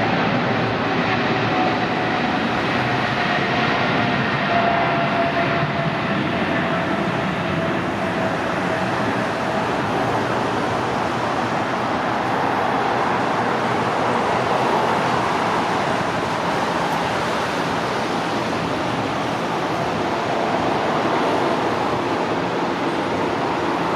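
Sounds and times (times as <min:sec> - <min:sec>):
jet engines at takeoff thrust: 0:00.0 - 0:23.9.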